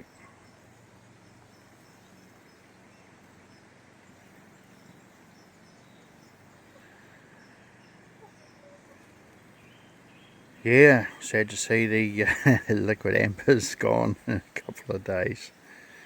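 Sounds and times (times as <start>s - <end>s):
low background hiss and hum: 0.0s - 16.0s.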